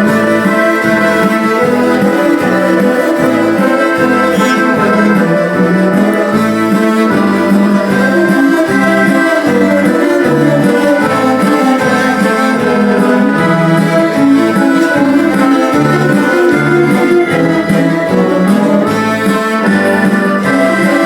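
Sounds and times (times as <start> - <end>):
cello ensemble playing chords: 0.0 - 21.0.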